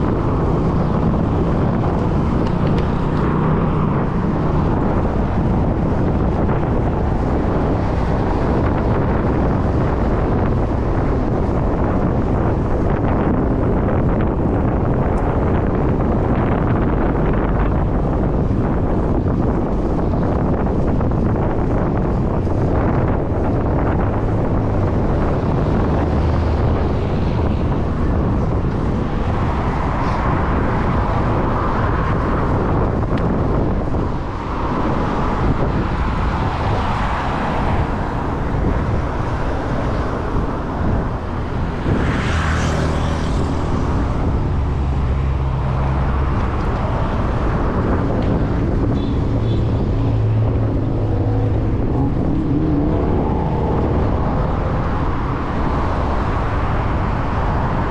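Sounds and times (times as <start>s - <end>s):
road traffic: 0.0s - 57.9s
wind buffeting microphone: 0.0s - 57.9s.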